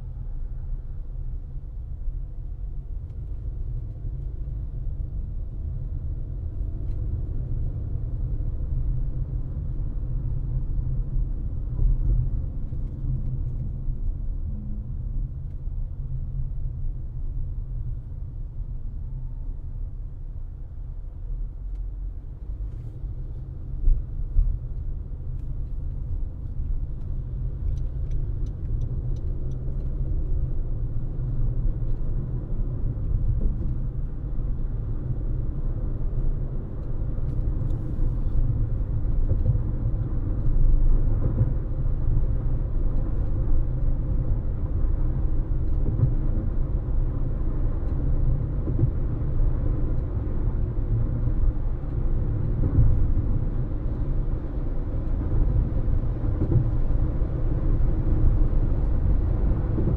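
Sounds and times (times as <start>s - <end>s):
tyre and road noise in car: 0.0s - 59.9s.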